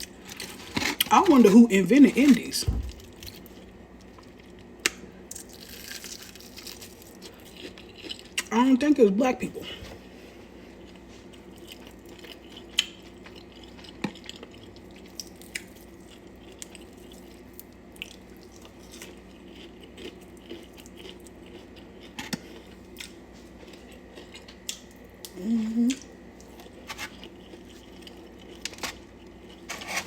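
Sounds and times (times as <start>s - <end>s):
faint steady hum: 0.0s - 30.0s
person chewing food: 2.9s - 8.5s, 10.3s - 30.0s.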